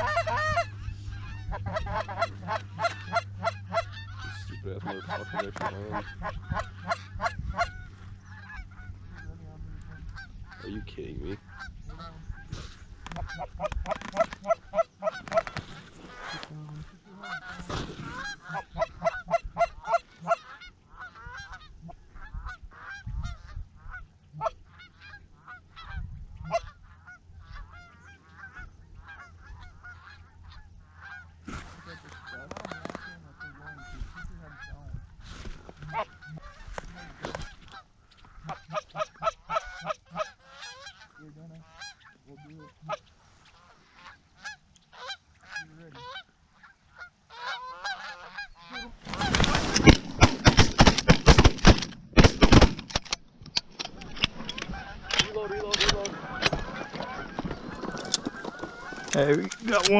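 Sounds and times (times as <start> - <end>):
geese honking and clucking: 0.0 - 59.9.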